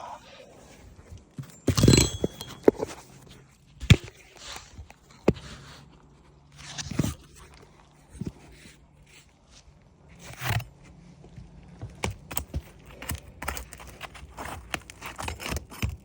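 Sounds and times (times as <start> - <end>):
roof shingles crunching and scraping: 2.8 - 16.0.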